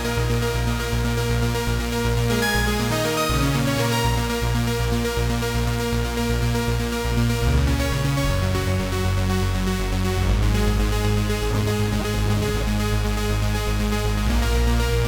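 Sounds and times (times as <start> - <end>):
pulsing synth bass line: 0.0 - 15.0
rhythmic electronic synthesizer pattern: 0.0 - 15.0.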